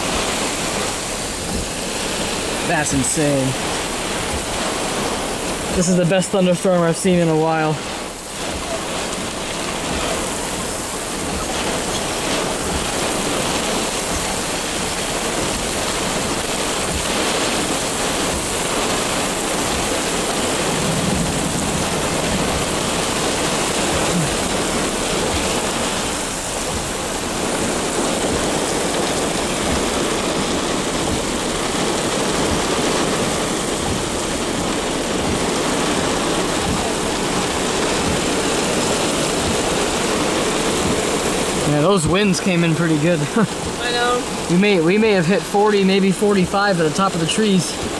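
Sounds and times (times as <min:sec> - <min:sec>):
gusting wind: 0:00.0 - 0:45.4
heavy rain pouring: 0:00.0 - 0:47.9.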